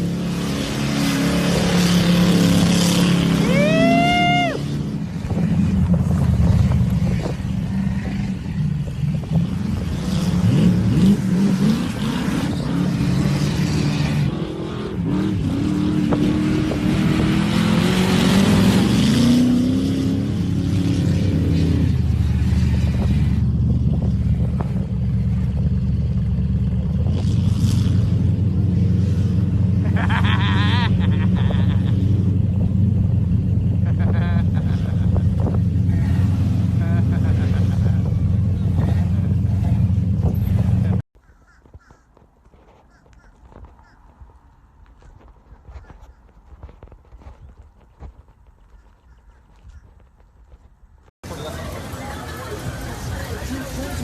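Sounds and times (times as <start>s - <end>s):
truck engine revving: 0.0s - 41.0s, 51.2s - 54.0s.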